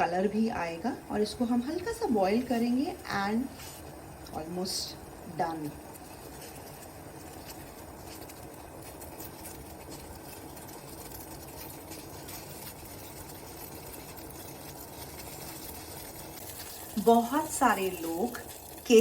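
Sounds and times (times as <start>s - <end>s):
tea bubbling in a pan: 0.0s - 19.0s.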